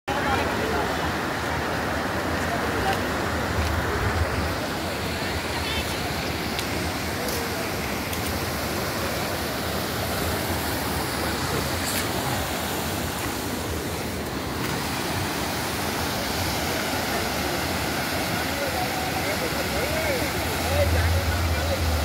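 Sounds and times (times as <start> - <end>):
floodwater rushing: 0.1 - 22.0.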